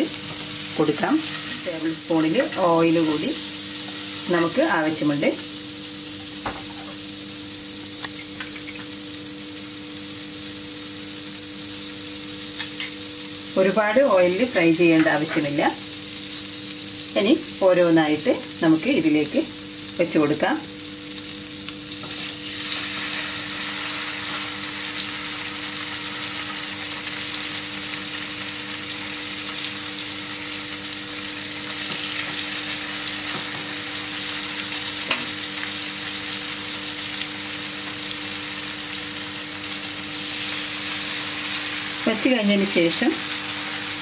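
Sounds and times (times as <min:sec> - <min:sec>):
chicken sizzling in a pan: 0:00.0 - 0:44.0.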